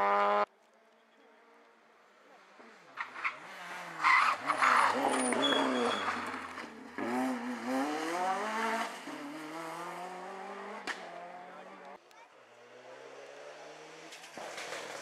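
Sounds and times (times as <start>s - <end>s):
rally car engine revving: 2.6s - 15.0s.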